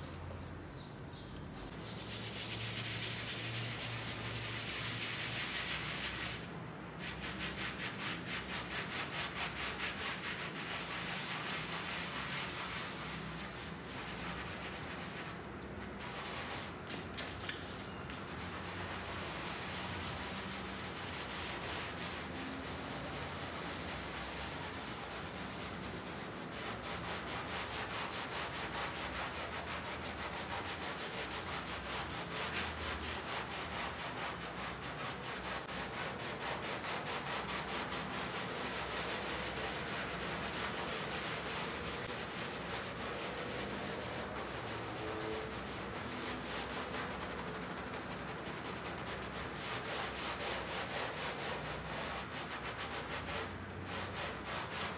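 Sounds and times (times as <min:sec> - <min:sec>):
brush scrubbing a wet rug: 0:01.6 - 0:54.9.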